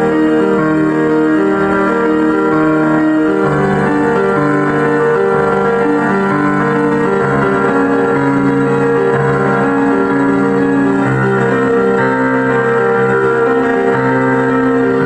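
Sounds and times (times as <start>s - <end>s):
held keyboard chords: 0.0s - 15.0s.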